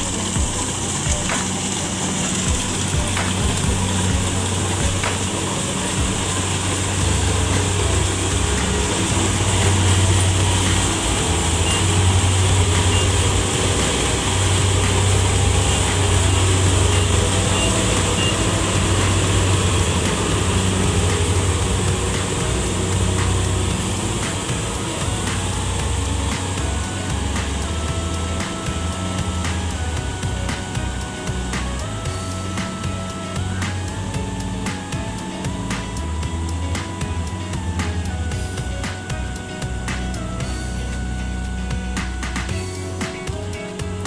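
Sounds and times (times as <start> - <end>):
combine harvester engine drone: 0.0 - 44.0
harvester threshing rushing noise: 0.0 - 44.0.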